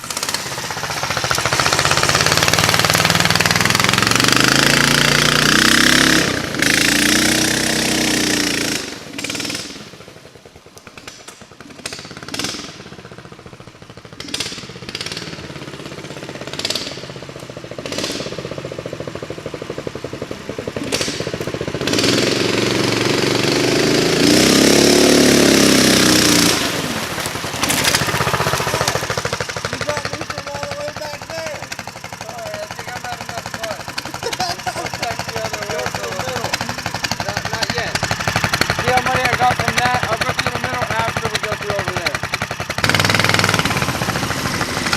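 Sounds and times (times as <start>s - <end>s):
single-cylinder engine revving: 0.0s - 44.9s.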